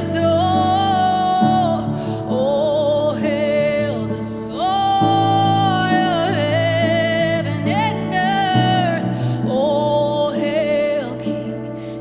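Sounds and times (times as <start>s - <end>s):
slow soft worship music: 0.0s - 12.0s.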